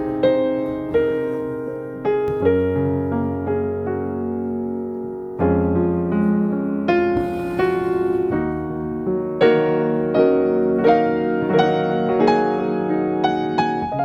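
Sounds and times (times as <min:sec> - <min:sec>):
slow gentle piano chords: 0:00.0 - 0:14.0.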